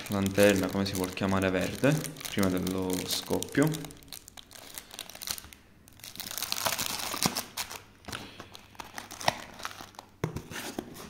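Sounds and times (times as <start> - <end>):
plastic wrapping crinkling: 0.0 - 10.2.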